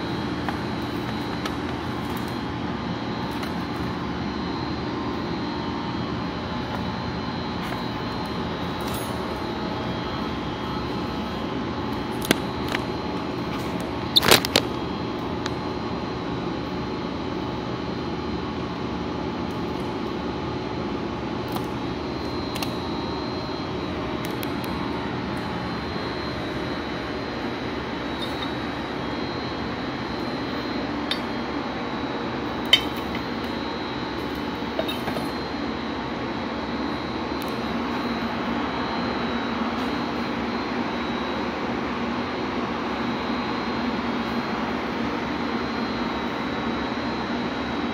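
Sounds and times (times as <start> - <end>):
machine humming with high whine: 0.0 - 47.9.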